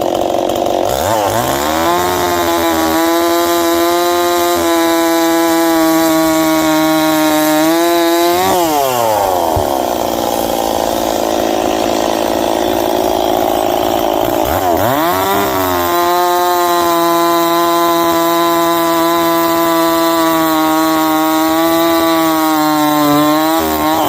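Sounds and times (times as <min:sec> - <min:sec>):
chainsaw cutting log: 0:00.0 - 0:24.0.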